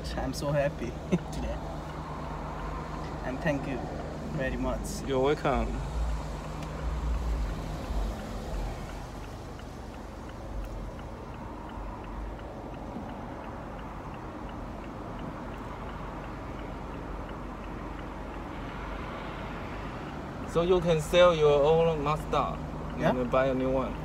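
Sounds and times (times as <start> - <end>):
car engine and road rumble: 0.0 - 24.0
light regular ticking: 0.0 - 24.0.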